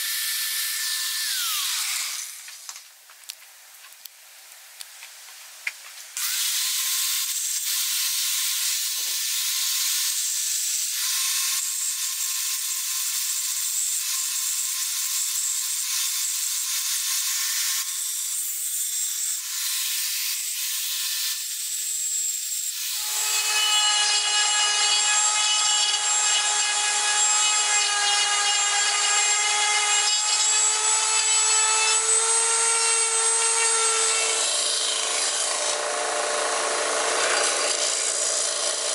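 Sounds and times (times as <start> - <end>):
angle grinder cutting steel: 0.0 - 2.7, 6.2 - 38.9
rotary tool grinding steel: 0.0 - 2.7, 6.2 - 38.9.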